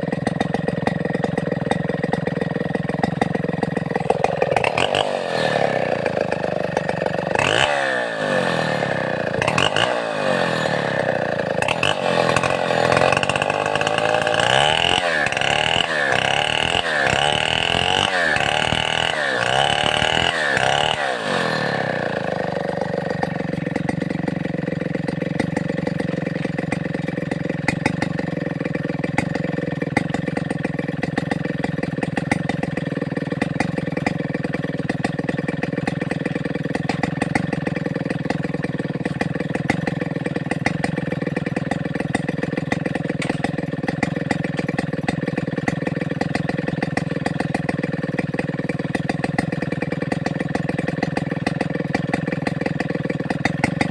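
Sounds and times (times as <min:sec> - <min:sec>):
chainsaw engine idling: 0:00.0 - 0:53.9.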